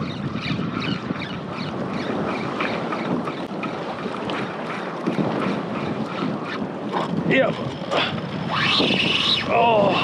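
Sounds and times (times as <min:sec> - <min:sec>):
wind buffeting microphone: 0:00.0 - 0:10.0
water splashing against kayak hull: 0:01.8 - 0:10.0.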